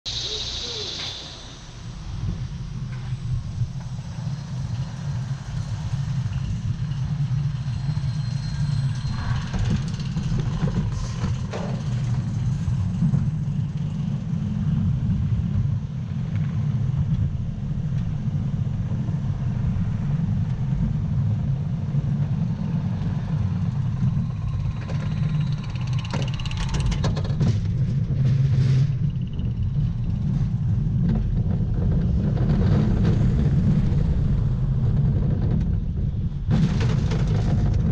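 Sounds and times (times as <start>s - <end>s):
roller coaster lift chain rumble: 0.1s - 37.9s.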